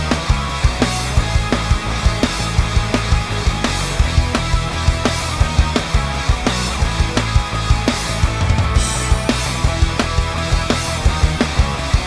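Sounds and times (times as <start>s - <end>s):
rock music with heavy guitars: 0.0s - 12.0s.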